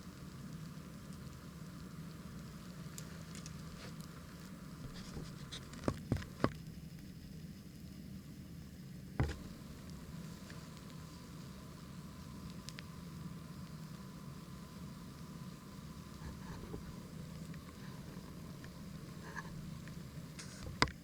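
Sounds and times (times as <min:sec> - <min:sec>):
wood crackling and popping: 0:00.0 - 0:07.4, 0:09.0 - 0:21.0
campfire rushing: 0:00.0 - 0:21.0.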